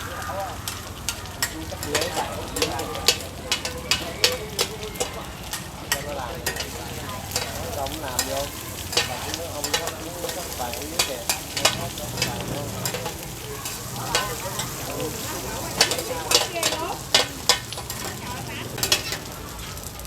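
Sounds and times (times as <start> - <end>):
food sizzling in oil: 0.0 - 20.0
metal spatula scraping a pan: 0.6 - 19.8.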